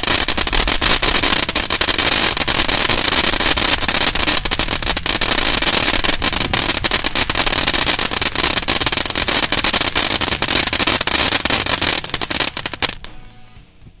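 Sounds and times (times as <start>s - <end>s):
rapid crackling: 0.0s - 13.1s
firework fountain hissing sparks: 0.0s - 13.2s.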